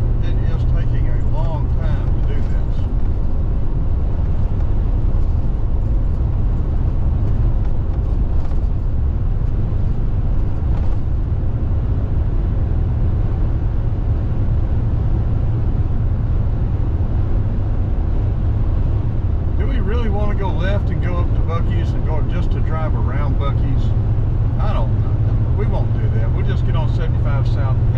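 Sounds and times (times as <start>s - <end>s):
car cabin road and engine rumble: 0.0s - 27.9s.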